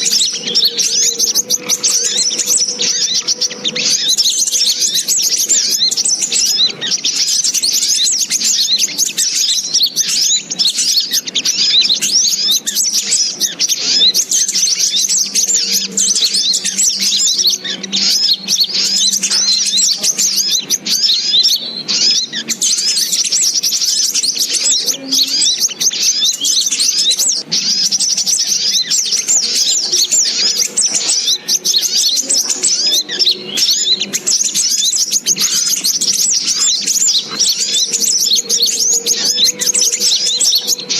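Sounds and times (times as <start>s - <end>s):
high-pitched bird chirping: 0.0s - 40.9s.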